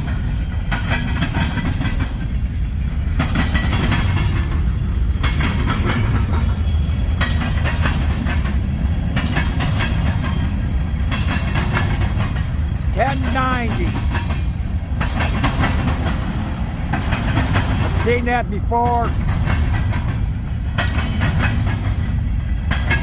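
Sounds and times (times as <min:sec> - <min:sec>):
wheels clicking and rattling: 0:00.0 - 0:12.9, 0:13.9 - 0:18.0, 0:19.1 - 0:23.0
freight train cars rumbling: 0:00.0 - 0:23.0.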